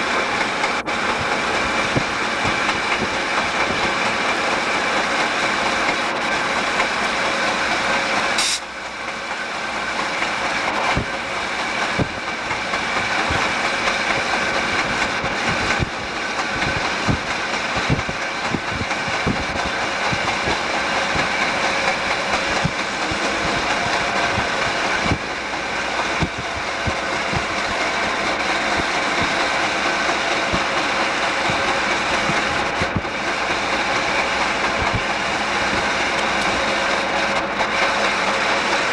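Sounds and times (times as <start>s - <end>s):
diesel locomotive engine drone: 0.0s - 38.9s
wheels clattering on rails: 0.0s - 38.9s.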